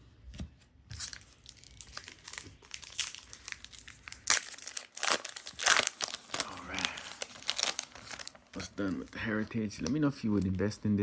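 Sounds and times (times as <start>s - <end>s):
wrapper crinkling and tearing: 1.0s - 11.0s.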